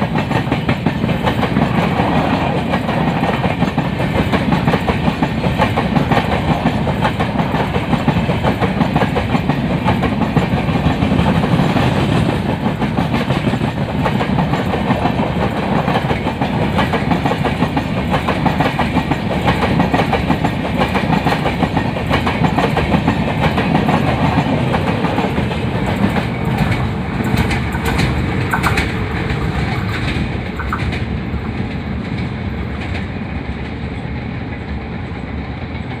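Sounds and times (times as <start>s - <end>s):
train rumble: 0.0s - 36.0s
train wheels clattering on rails: 0.0s - 36.0s.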